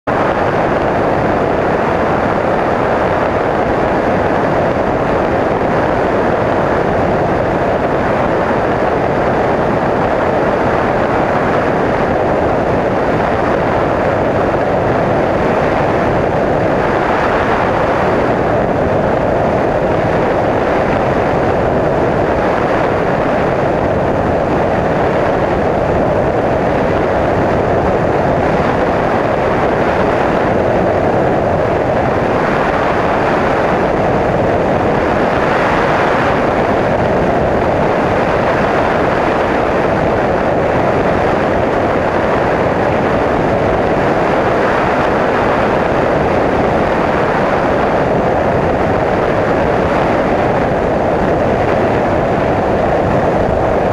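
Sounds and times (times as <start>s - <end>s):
wind rushing over microphone: 0.0s - 53.9s
aircraft engine and propeller drone: 0.1s - 53.9s.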